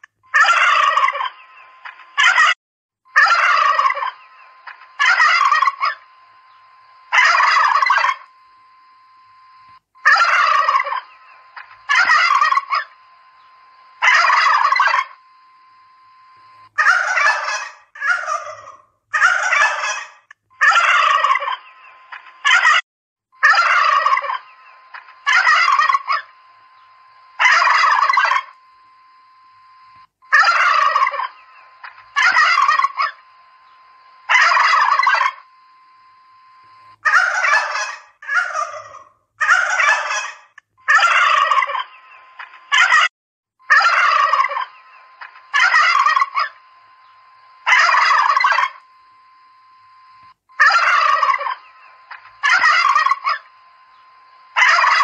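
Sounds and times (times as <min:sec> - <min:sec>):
turkeys gobbling: 0:00.3 - 0:08.3, 0:10.0 - 0:15.2, 0:16.8 - 0:22.8, 0:23.4 - 0:28.6, 0:30.3 - 0:35.5, 0:37.0 - 0:43.1, 0:43.7 - 0:46.6, 0:47.6 - 0:48.8, 0:50.6 - 0:55.0
faint steady hum: 0:03.1 - 0:22.8, 0:23.4 - 0:43.0, 0:43.6 - 0:55.0.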